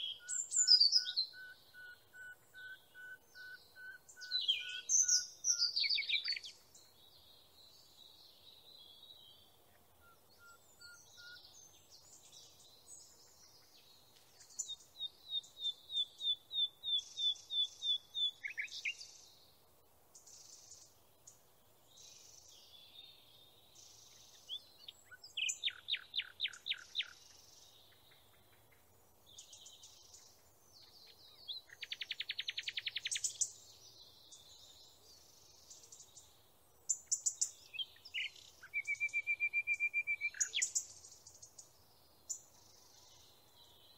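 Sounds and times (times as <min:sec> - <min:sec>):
songbirds singing: 0:00.0 - 0:43.9.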